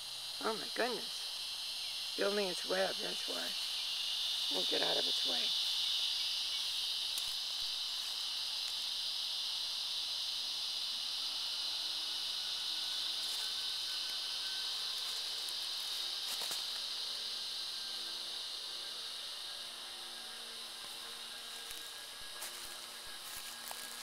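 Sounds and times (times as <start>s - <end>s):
insects buzzing shrilly: 0.0s - 24.0s.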